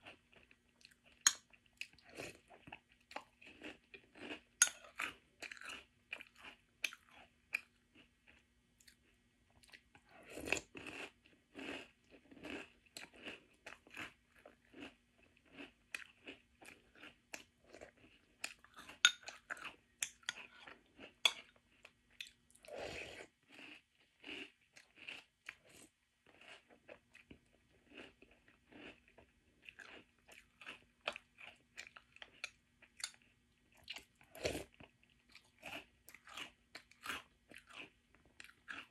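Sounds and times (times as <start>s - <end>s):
crunching and chewing cereal: 0.0s - 38.9s.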